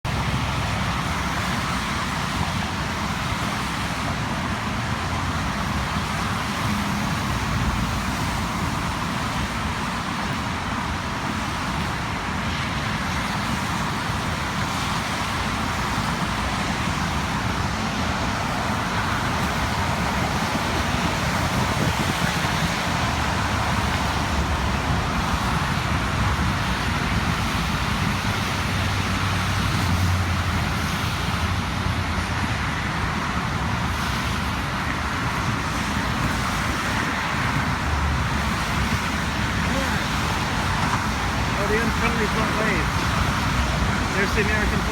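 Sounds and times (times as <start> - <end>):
road traffic rumble: 0.0 - 44.9.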